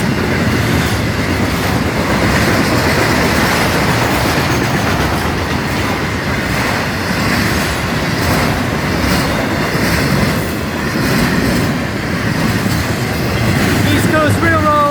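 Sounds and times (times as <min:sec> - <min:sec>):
train wheels rumbling on rails: 0:00.0 - 0:14.9
wheels clicking over rail joints: 0:00.0 - 0:14.9.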